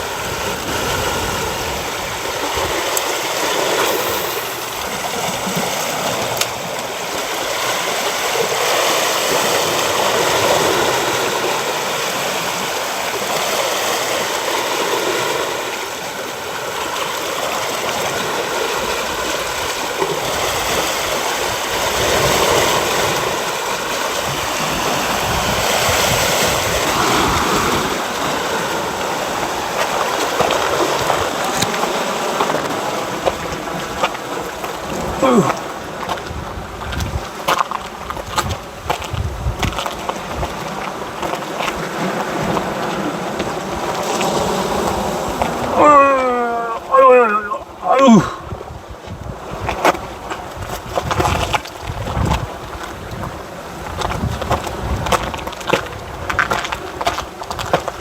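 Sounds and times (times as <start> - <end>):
sea water rushing and churning: 0.0 - 58.0.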